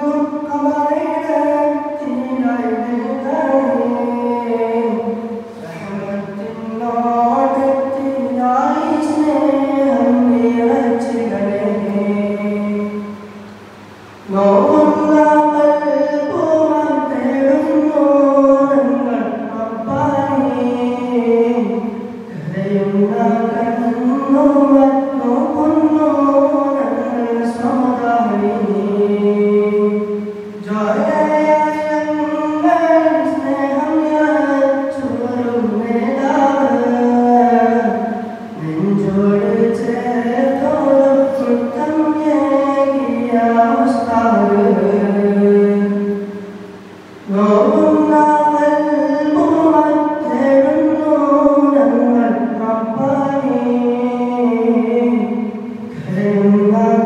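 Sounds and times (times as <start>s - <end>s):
man singing unaccompanied: 0.0s - 57.0s.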